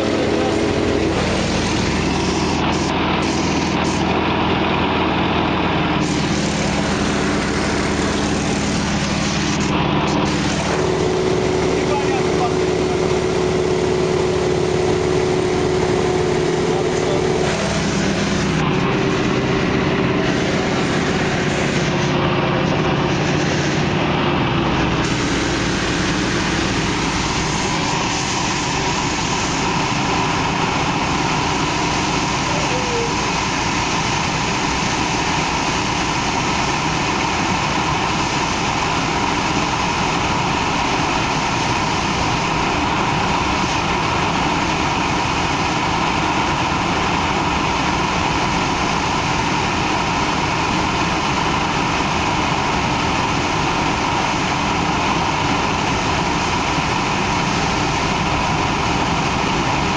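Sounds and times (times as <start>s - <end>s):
radial engine and propeller running: 0.0s - 59.9s.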